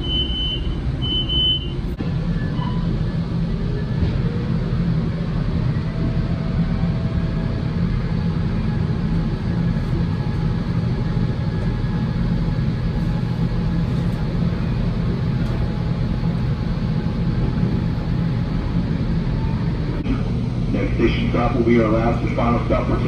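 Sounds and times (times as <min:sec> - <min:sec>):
train rumbling in motion: 0:00.0 - 0:23.0.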